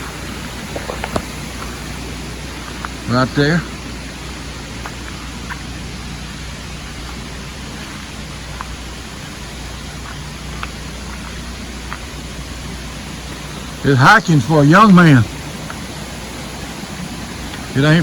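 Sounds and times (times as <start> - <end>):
creek and waterfall rushing: 0.0 - 18.0.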